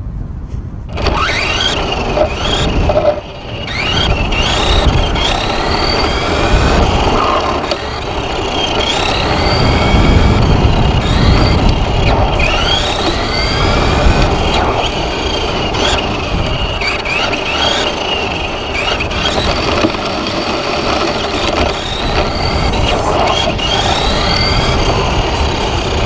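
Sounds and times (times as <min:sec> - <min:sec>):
tyres and wind rumble: 0:00.0 - 0:26.0
electric motor whine: 0:00.9 - 0:26.0.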